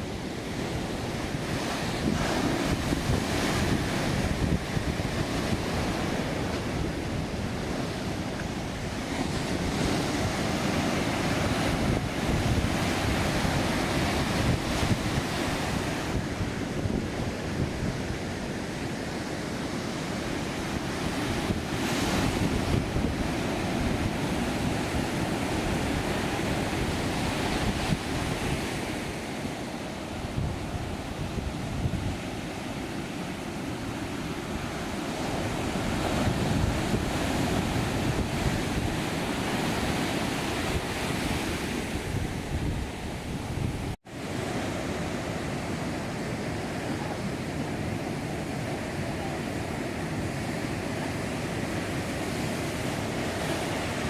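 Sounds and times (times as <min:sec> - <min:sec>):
heavy surf breaking on beach: 0:00.0 - 0:54.0
wind buffeting microphone: 0:00.0 - 0:54.0.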